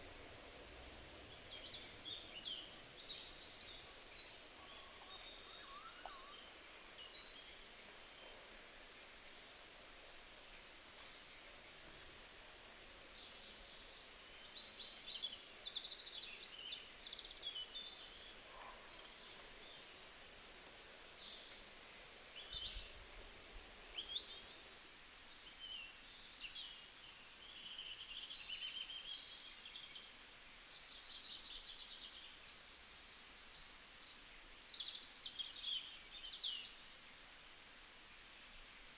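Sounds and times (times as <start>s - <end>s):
faint steady hiss: 0.0s - 38.9s
small birds chirping and singing: 1.3s - 38.9s.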